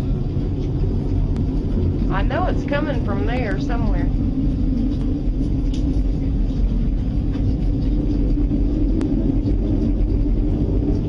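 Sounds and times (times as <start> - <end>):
low rumbling drone: 0.0 - 11.0.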